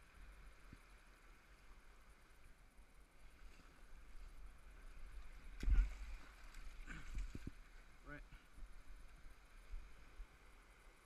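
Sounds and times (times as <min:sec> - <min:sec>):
river water over rapids: 0:00.0 - 0:11.0.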